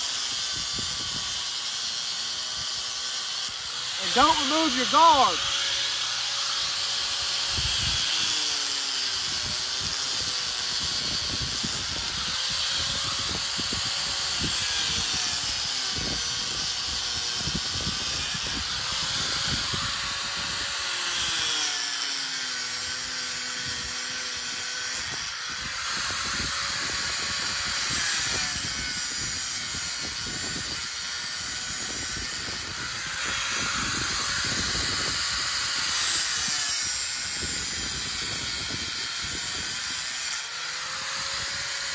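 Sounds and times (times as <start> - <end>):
angle grinder cutting steel wire: 0.0 - 41.9.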